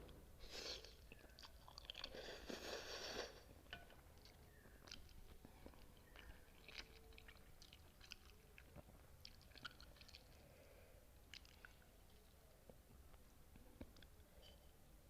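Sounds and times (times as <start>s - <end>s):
chewing food: 0.5s - 14.6s.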